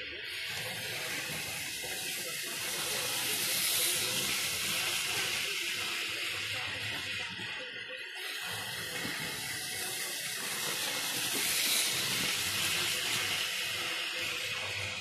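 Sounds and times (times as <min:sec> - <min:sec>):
steady hiss like steam: 0:00.0 - 0:15.0.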